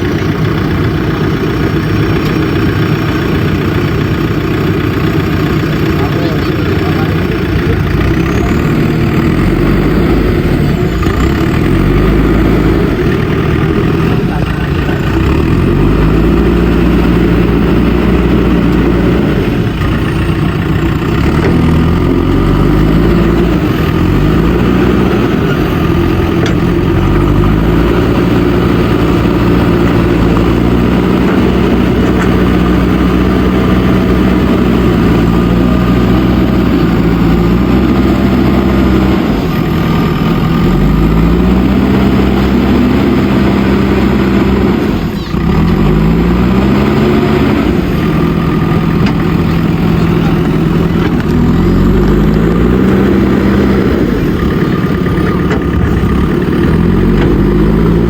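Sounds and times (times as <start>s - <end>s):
backhoe diesel engine working: 0.0s - 58.0s.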